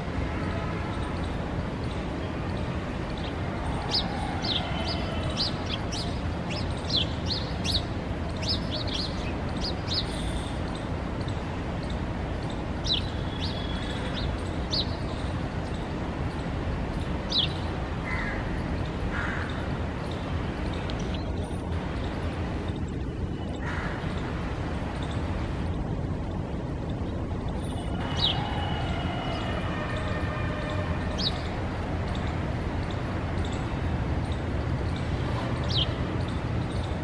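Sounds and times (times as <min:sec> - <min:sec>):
small birds chirping: 0:00.9 - 0:28.5, 0:30.6 - 0:37.0.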